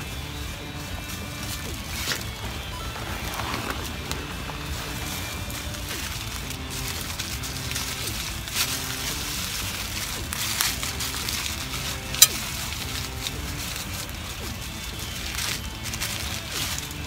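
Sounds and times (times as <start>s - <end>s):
wood fire crackling: 0.0s - 17.0s
fire pops and cracks: 1.4s - 17.0s.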